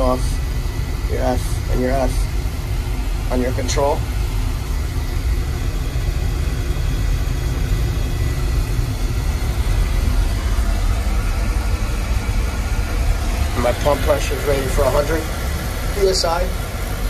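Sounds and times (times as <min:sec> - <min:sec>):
oil burner rumbling: 0:00.0 - 0:17.0.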